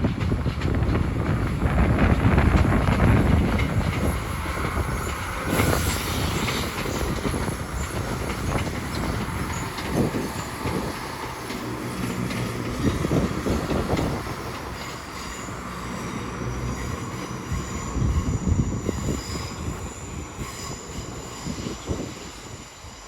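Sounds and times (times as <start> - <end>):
diesel train engines: 0.0 - 23.0
wheel and rail noise: 0.0 - 23.0.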